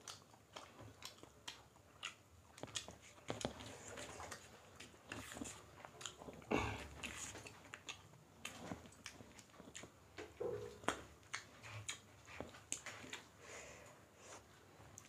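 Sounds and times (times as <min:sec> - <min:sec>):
chewing and mouth noises: 0:00.0 - 0:13.4.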